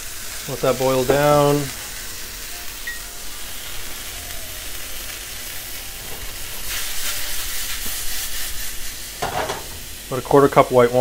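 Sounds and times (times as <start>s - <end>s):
mushrooms sizzling and bubbling: 0.0s - 11.0s.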